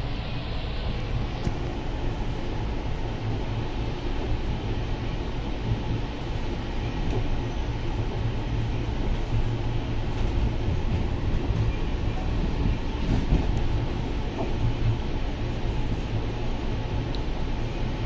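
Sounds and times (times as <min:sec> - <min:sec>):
train coach rumble and hum: 0:00.0 - 0:18.0.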